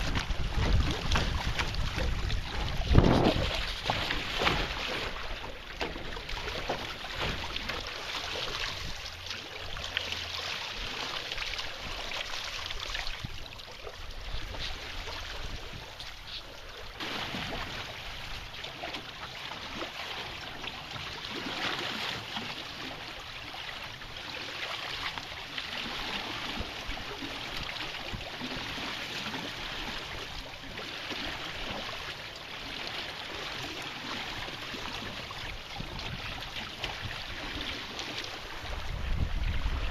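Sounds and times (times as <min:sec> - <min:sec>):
water splashing along a hull: 0:00.0 - 0:39.9.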